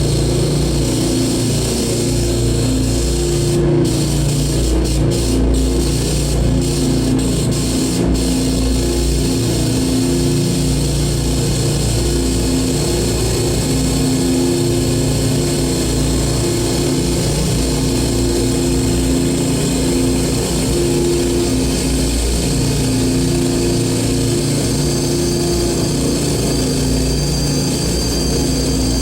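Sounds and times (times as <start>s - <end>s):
distorted noise music: 0.0s - 29.0s
sustained droning tones: 0.0s - 29.0s.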